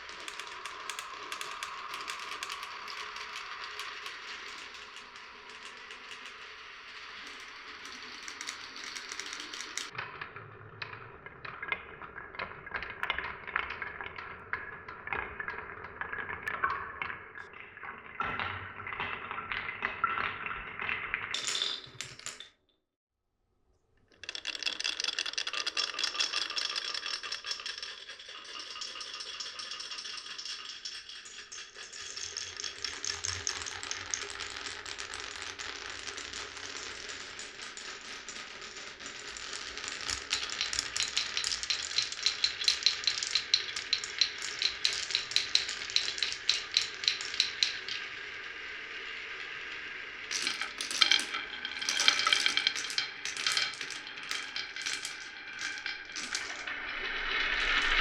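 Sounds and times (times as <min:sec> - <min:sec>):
marbles rolling on wooden run: 0:00.0 - 0:22.5, 0:24.1 - 0:58.0.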